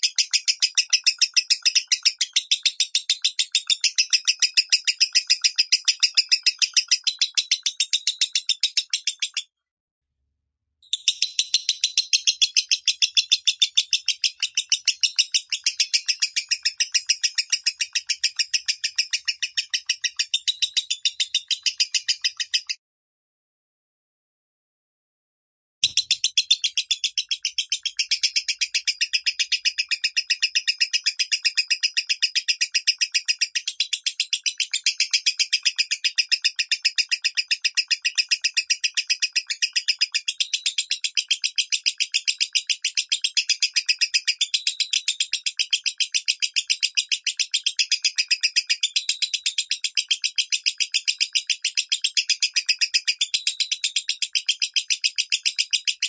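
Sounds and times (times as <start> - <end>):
lovebird chattering song: 0.0 - 9.4, 10.8 - 22.8, 25.8 - 56.0.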